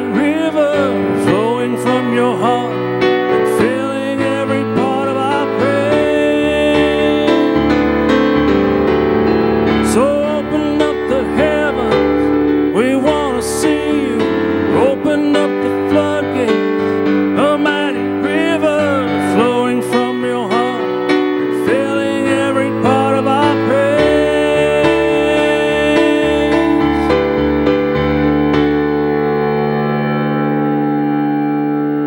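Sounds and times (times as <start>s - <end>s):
electronic keyboard chords: 0.0s - 32.0s.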